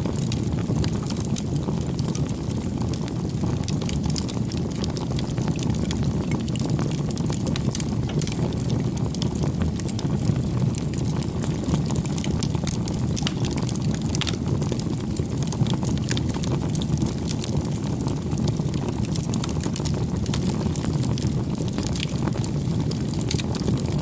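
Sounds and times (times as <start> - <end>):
fire crackling and popping: 0.0 - 24.0
fire flames rushing: 0.0 - 24.0.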